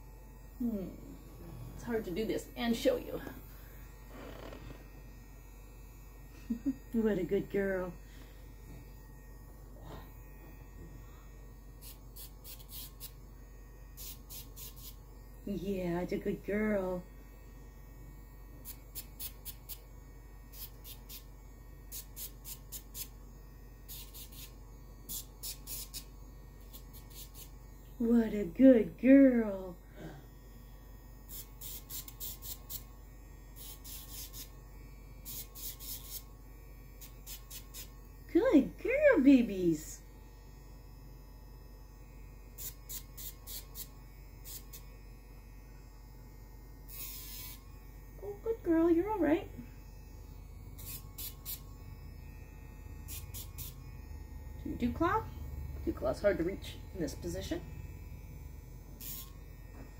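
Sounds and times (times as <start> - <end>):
nail grinder humming: 0.0 - 59.9.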